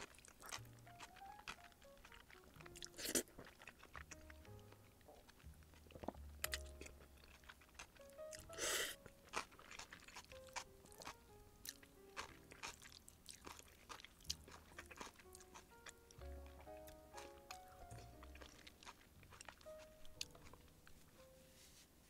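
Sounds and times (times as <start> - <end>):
crunchy chewing: 0.0 - 21.1
quiet background music: 0.0 - 22.0.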